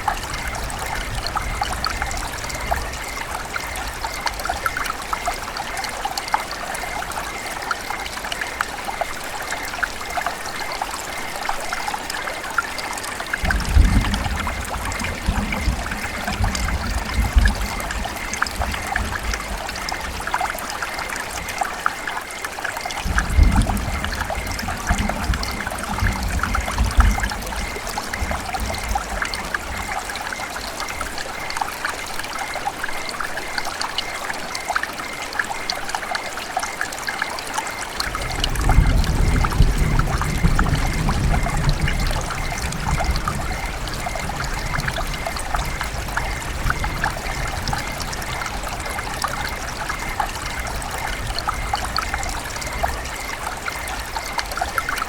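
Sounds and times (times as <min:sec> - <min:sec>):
river water running: 0:00.0 - 0:55.0.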